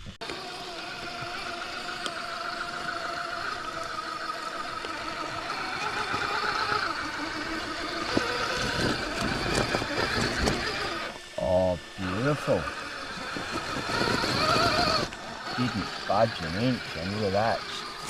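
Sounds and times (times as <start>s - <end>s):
electric motor and drivetrain whining: 0.0s - 18.0s.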